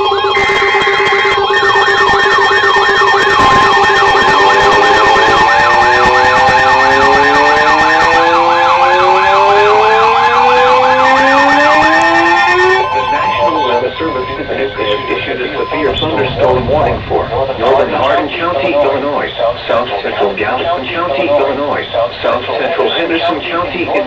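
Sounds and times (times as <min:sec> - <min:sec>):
fast warbling siren: 0:00.0 - 0:24.0
siren tones climbing in pitch: 0:00.0 - 0:24.0
two-tone attention signal: 0:00.0 - 0:24.0.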